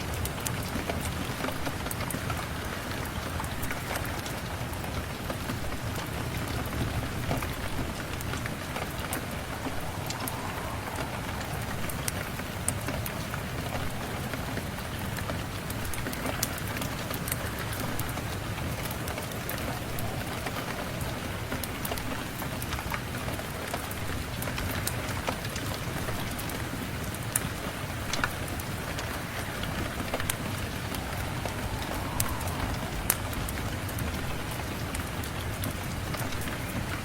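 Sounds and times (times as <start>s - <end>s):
rain falling: 0.0s - 37.0s.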